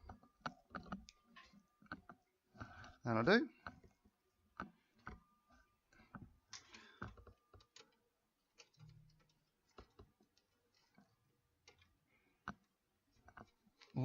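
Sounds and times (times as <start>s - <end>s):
clicks and taps of small parts: 0.0s - 14.0s.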